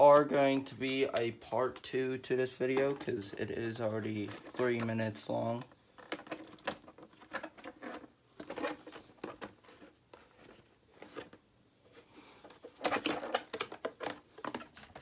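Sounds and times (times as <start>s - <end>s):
plastic clicking and crackling: 1.1s - 11.4s, 12.4s - 15.0s.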